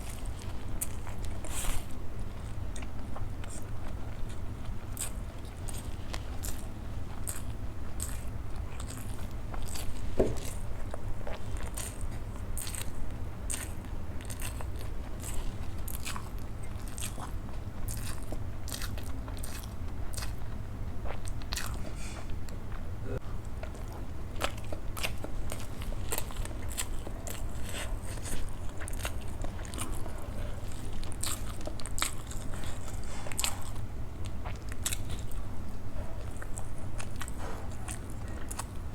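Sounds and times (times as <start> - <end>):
chewing and mouth sounds: 0.0 - 38.9
steady low hum: 0.0 - 38.9.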